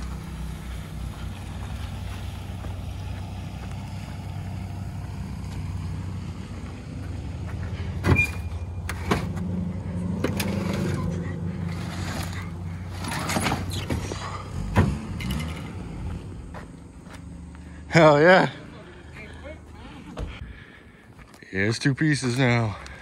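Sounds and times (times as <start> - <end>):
engine idling hum: 0.0 - 23.0.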